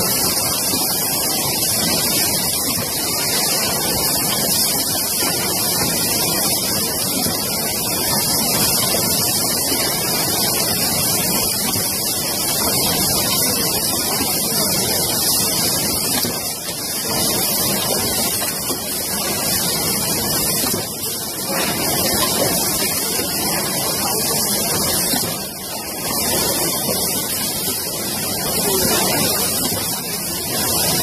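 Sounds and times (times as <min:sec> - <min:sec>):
machine hiss: 0:00.0 - 0:31.0.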